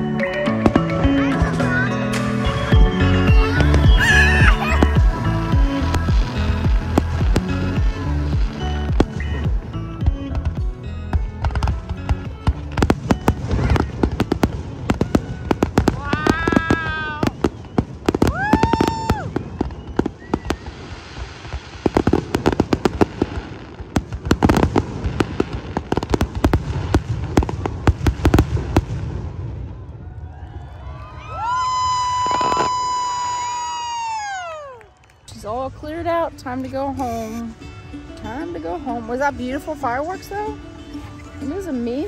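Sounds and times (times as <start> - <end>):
fireworks bangs and crackling: 0.1 - 37.6.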